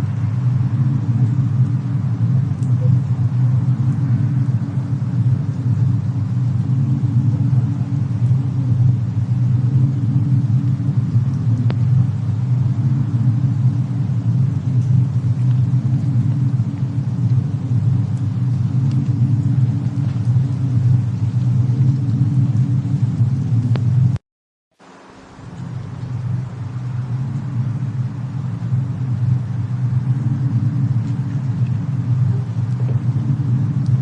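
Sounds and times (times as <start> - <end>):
faint fire crackles: 0.0 - 24.2, 24.8 - 34.0
low rumble of snowstorm: 0.0 - 24.2, 24.8 - 34.0.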